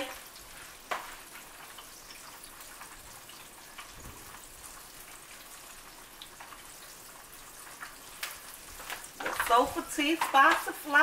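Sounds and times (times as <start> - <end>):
pork chop sizzling in grease: 0.0 - 11.0.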